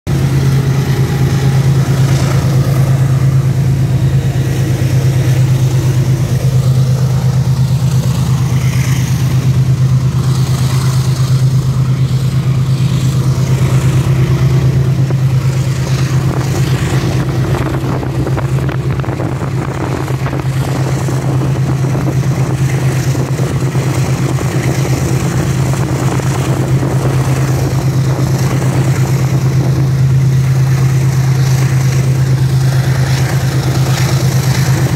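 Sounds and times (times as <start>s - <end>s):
motorcycle engine cruising: 0.1s - 34.9s
wind rushing noise: 0.1s - 34.9s.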